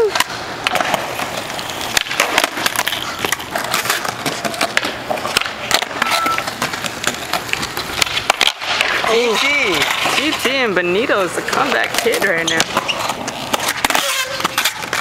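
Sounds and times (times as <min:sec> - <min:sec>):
skateboard clacks: 0:00.0 - 0:15.0
skateboard rolling on concrete: 0:00.0 - 0:15.0.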